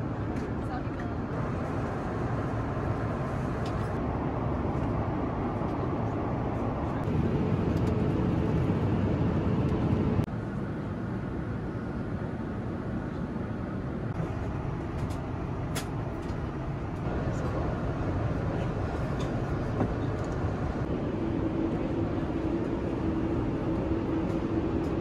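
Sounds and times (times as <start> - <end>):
airplane cabin noise: 0.0 - 25.0.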